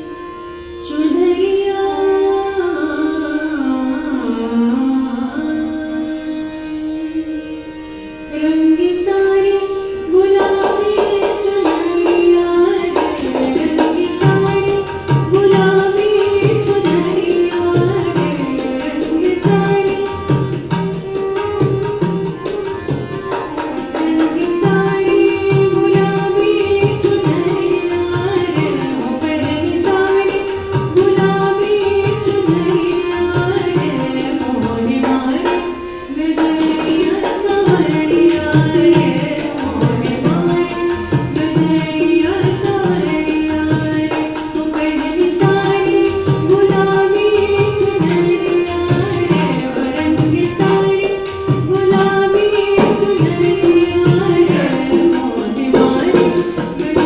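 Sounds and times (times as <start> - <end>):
harmonium: 0.0 - 57.0
tanpura drone: 0.0 - 57.0
woman singing: 0.0 - 57.0
tabla drumming: 10.1 - 57.0.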